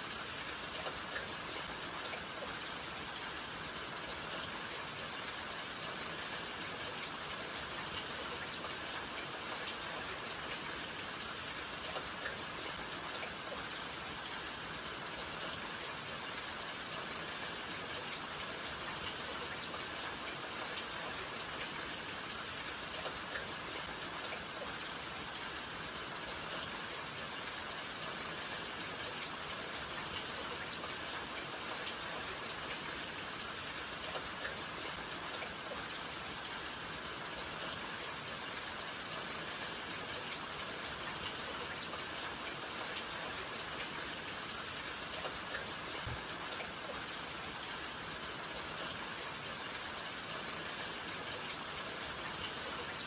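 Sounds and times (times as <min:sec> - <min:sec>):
raindrops ticking on surfaces: 0:00.0 - 0:53.0
steady rain hiss: 0:00.0 - 0:53.0.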